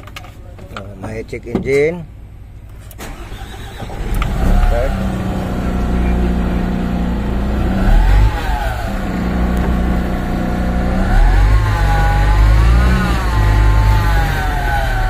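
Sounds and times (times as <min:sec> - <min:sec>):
diesel truck engine revving: 0:02.9 - 0:15.0.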